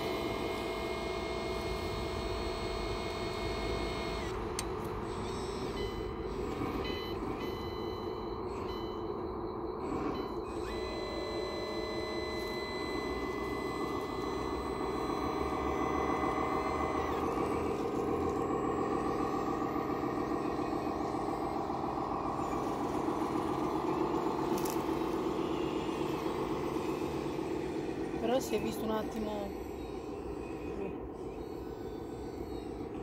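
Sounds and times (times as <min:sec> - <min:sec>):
toy truck mechanical drone: 0:00.0 - 0:33.0.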